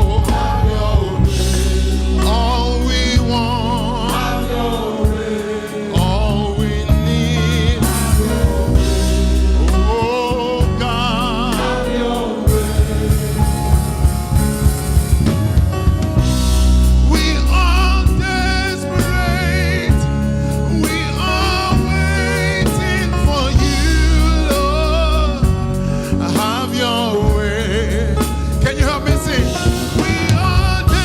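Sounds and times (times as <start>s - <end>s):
person singing with vibrato: 0.0s - 14.1s, 17.0s - 31.0s
band with bass and drums: 0.0s - 31.0s.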